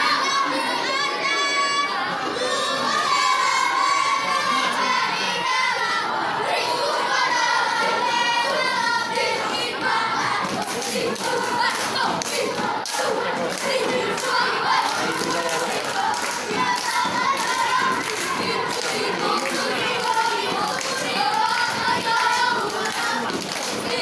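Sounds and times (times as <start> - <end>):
boys chanting in unison: 0.0 - 24.0.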